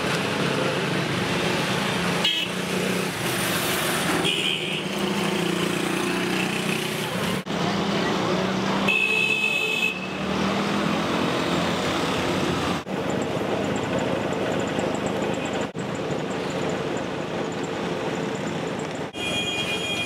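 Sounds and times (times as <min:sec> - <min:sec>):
city background noise: 0:00.0 - 0:20.0.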